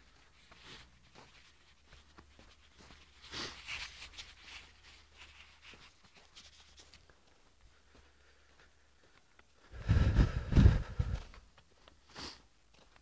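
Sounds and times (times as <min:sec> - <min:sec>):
footsteps on packed snow: 0:00.0 - 0:13.0.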